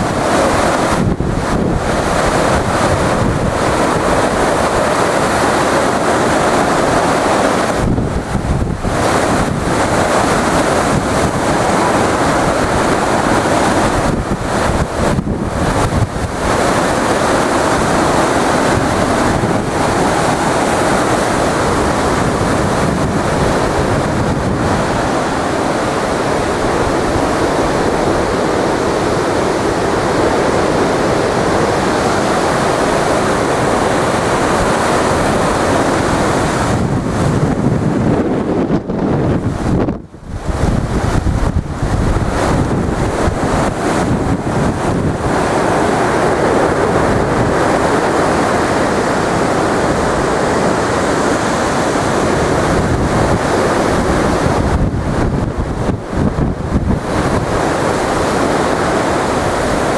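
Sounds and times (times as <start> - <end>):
strong wind rushing through trees: 0.0 - 59.9
wind buffeting microphone: 0.0 - 59.9.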